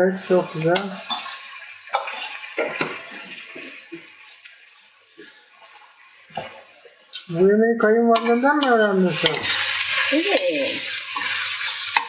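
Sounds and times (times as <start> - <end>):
vegetables sizzling in oil: 0.0 - 7.4, 8.3 - 12.0.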